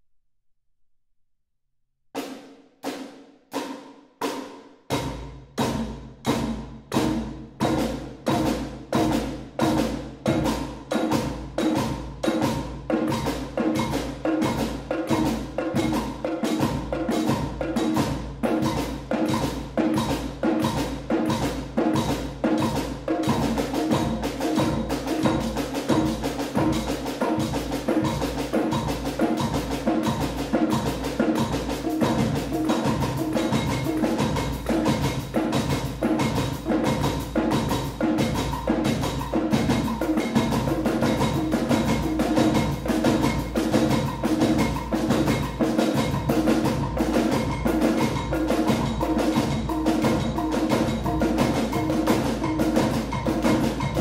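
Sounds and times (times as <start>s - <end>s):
percussion ensemble playing: 2.2s - 54.0s.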